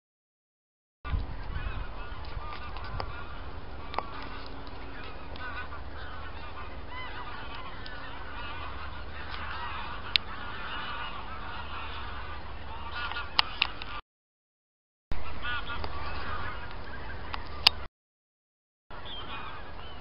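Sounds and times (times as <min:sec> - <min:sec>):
geese honking: 0:01.4 - 0:14.0, 0:15.2 - 0:17.9, 0:18.9 - 0:20.0.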